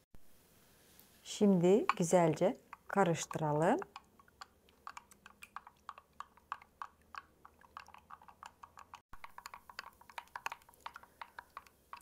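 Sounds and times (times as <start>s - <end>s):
wet clicks and squishes of stirring: 1.0s - 12.0s.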